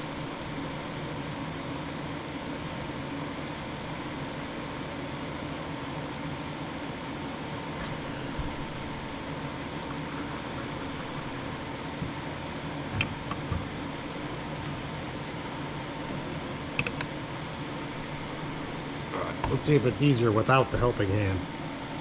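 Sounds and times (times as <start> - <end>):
steady fan-like hum: 0.0 - 22.0.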